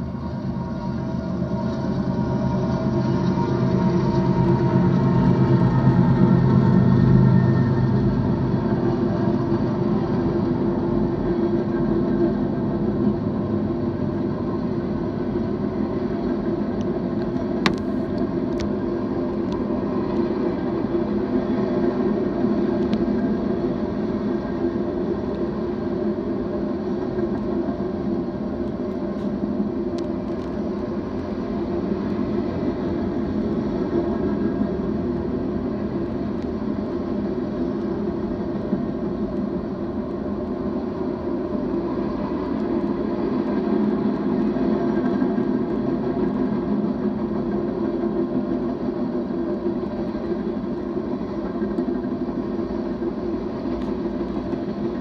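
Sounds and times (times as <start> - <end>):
freight train rolling: 0.0 - 55.0.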